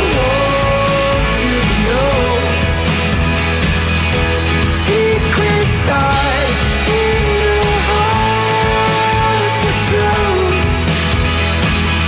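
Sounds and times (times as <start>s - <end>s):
background song with bass: 0.0s - 12.0s.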